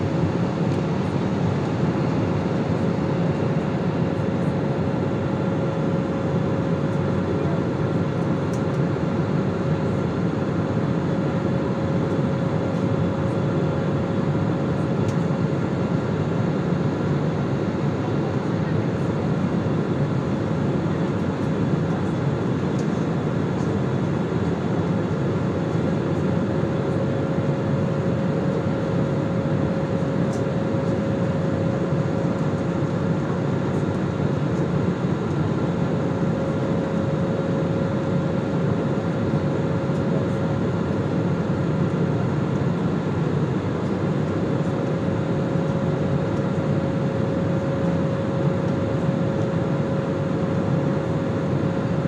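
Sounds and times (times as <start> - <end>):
airliner cabin drone: 0.0 - 52.0.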